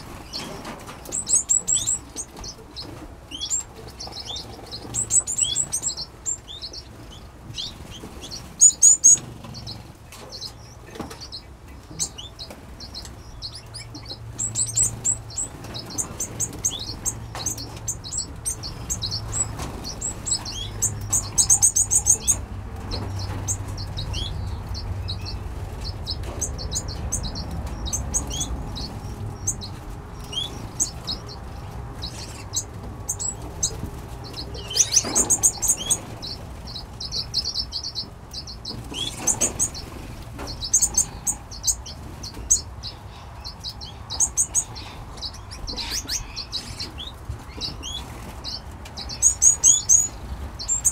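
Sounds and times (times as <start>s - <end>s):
finches chirping: 0.0s - 50.9s.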